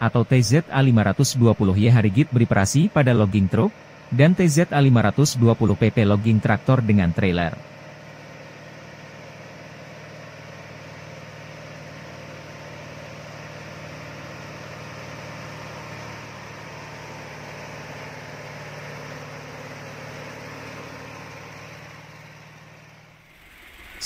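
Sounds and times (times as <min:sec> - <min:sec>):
diesel truck engines running: 0:00.0 - 0:24.0.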